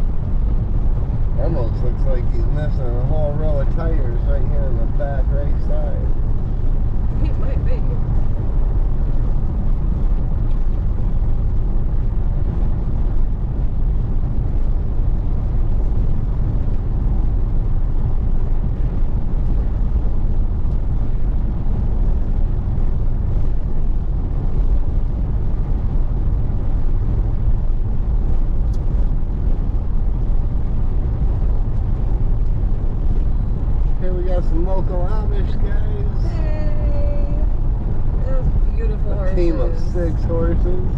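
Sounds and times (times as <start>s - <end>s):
car interior road and engine rumble: 0.0s - 40.9s.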